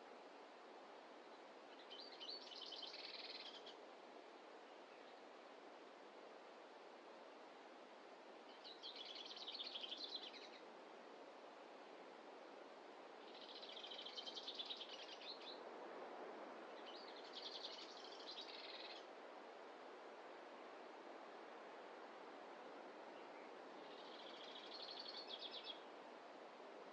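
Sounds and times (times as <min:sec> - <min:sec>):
faint forest ambience hiss: 0:00.0 - 0:26.9.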